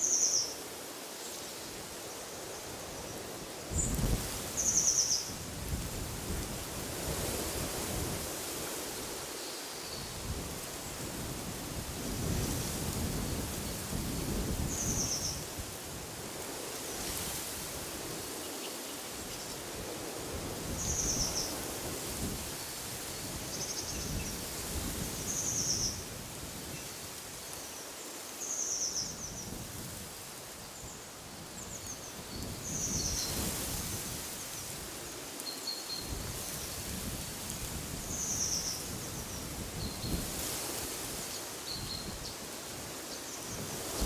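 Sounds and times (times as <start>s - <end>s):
wind gusting through trees: 0.0s - 44.0s.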